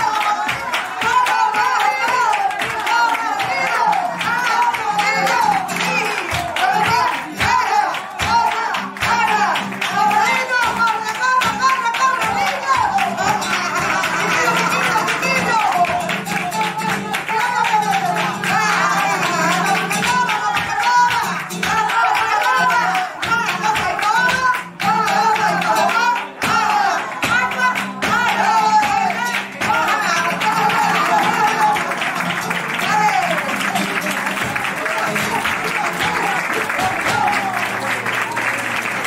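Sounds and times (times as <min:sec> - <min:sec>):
woman singing: 0:00.0 - 0:37.8
guitar: 0:00.0 - 0:39.0
rhythmic hand-clapping: 0:00.0 - 0:39.0.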